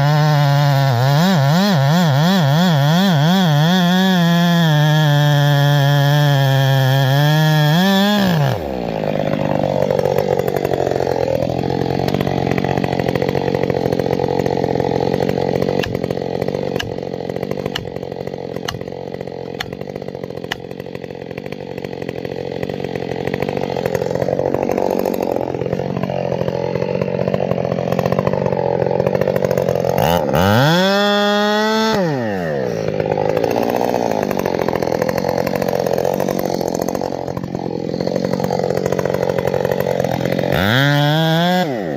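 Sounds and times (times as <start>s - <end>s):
chainsaw running under load: 0.0s - 41.9s.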